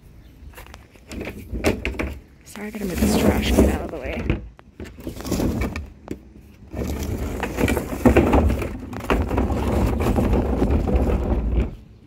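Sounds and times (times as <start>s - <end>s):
trash cart wheels rumbling on concrete: 0.6s - 12.0s.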